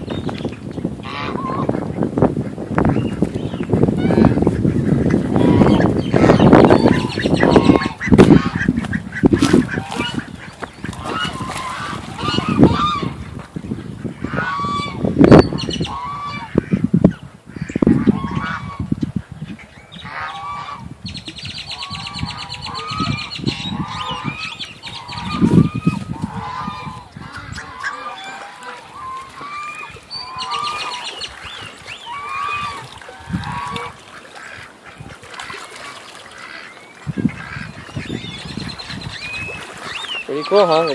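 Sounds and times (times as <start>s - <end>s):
wind buffeting microphone: 0.0s - 35.8s, 37.0s - 40.9s
geese honking: 1.0s - 3.1s, 3.7s - 15.1s, 15.7s - 16.8s, 17.6s - 18.9s, 20.0s - 20.9s, 21.8s - 40.9s.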